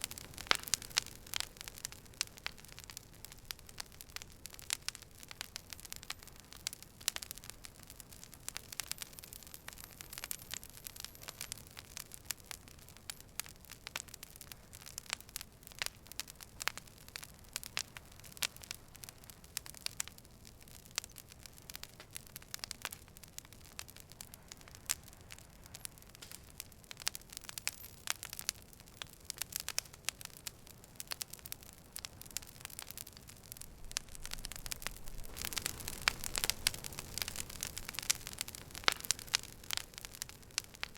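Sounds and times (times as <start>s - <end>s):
campfire wood crackling and popping: 0.0s - 40.9s
low steady fire hiss: 0.0s - 40.9s.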